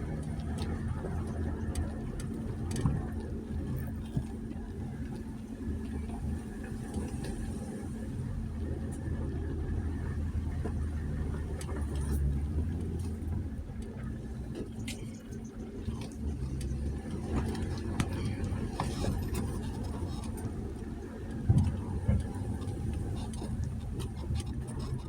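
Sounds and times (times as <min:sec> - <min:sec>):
truck engine low rumble: 0:00.0 - 0:25.0.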